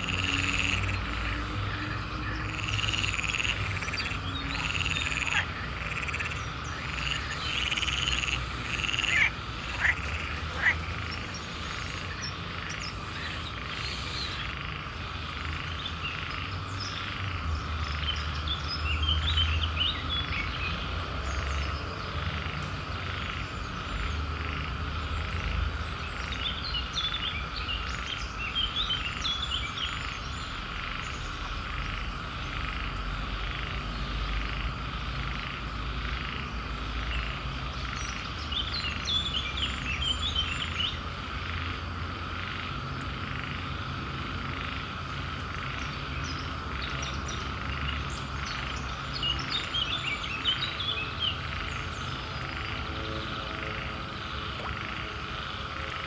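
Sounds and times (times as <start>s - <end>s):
frog chorus: 0.0s - 56.0s.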